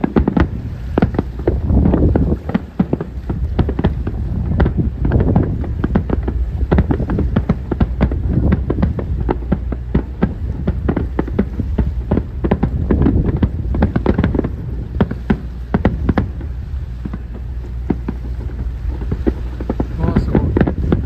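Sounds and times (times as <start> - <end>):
fireworks bursting: 0.0 - 21.0
low rumble: 0.0 - 21.0.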